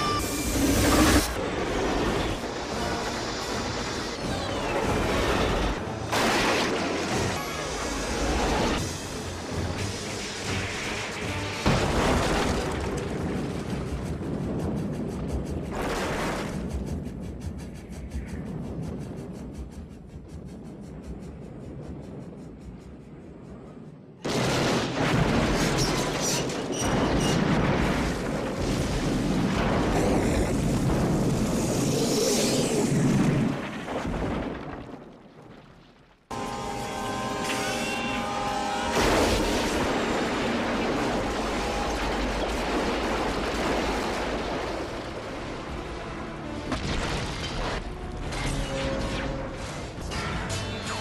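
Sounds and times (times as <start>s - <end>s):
heavy rumble of fire and debris: 0.0s - 36.5s, 38.3s - 50.4s
film score: 0.0s - 51.0s.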